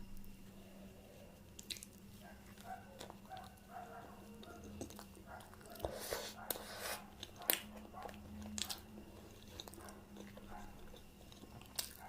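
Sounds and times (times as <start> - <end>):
faint steady hum: 0.0 - 12.0
person chewing food: 1.5 - 12.0.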